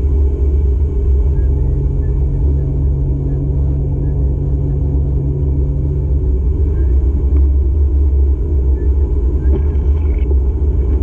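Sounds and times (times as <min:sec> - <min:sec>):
engine hum: 0:00.0 - 0:11.0
road rumble inside car: 0:00.0 - 0:11.0.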